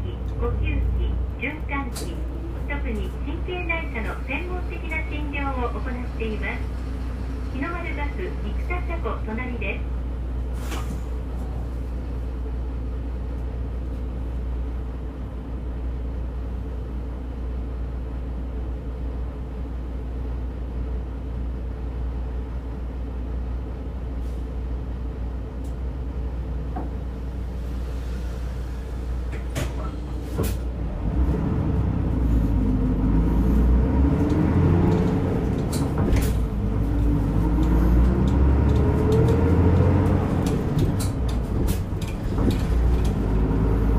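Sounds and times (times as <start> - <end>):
bus diesel engine accelerating: 0.0 - 43.9.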